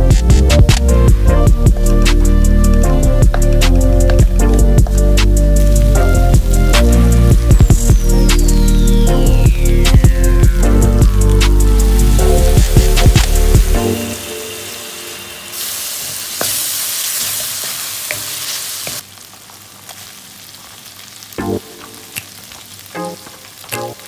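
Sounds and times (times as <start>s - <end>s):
food sizzling in a wok: 1.3s - 24.0s.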